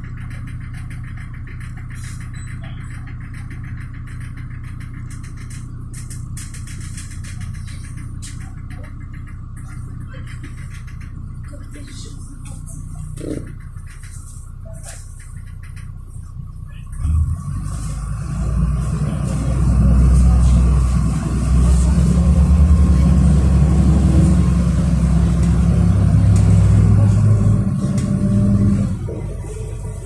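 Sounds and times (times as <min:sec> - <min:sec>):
bus engine accelerating: 0:00.0 - 0:30.0.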